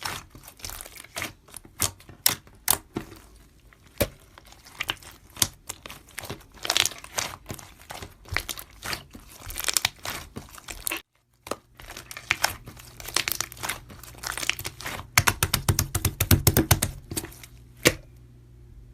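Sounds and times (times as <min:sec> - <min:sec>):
crinkling handling noise: 0:00.0 - 0:15.5, 0:16.8 - 0:17.9.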